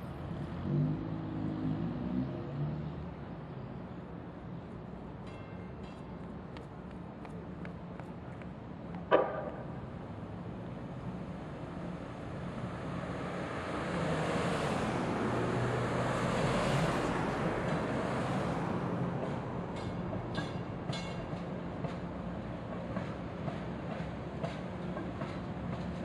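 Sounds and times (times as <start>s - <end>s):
light rail train rumbling past: 0.0s - 26.0s.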